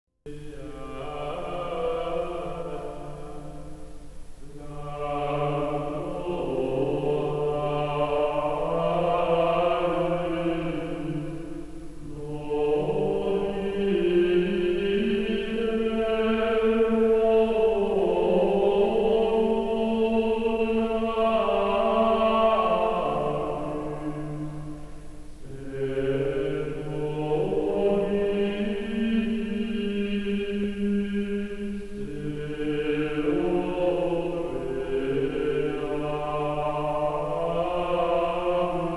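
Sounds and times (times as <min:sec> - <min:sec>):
choir singing slow chant: 0:00.3 - 0:38.9.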